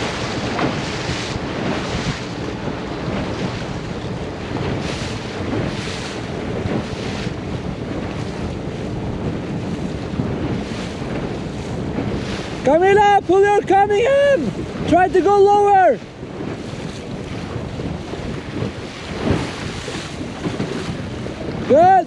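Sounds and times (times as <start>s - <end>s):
spray splashing against hull: 0.0s - 12.8s, 16.3s - 21.7s
rushing water: 0.0s - 22.0s
wind buffeting microphone: 0.0s - 22.0s.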